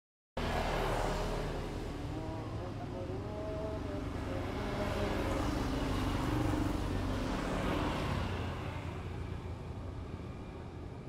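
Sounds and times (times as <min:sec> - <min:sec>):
vehicle passing by: 0:00.4 - 0:10.8.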